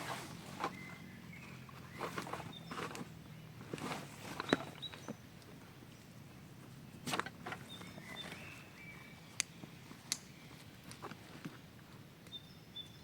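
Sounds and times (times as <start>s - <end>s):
forest ambience: 0.0s - 13.0s.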